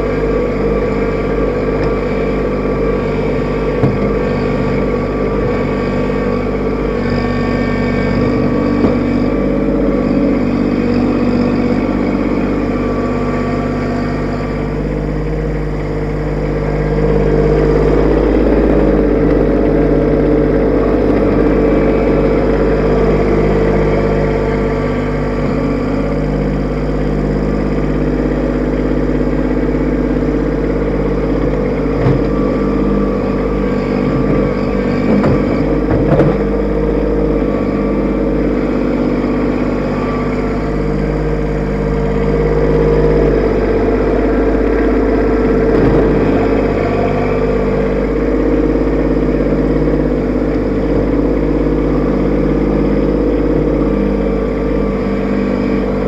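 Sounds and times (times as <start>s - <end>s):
diesel tractor engine running: 0.0s - 56.0s
loader digging soil: 0.0s - 56.0s.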